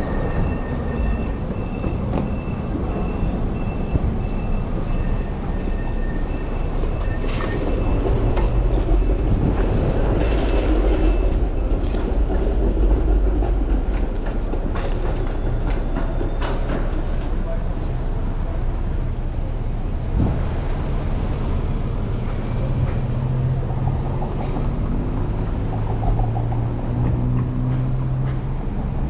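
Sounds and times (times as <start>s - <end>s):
low rumble of wind: 0.0s - 29.0s
street traffic: 0.0s - 29.0s
streetcar running on rails: 0.0s - 29.0s.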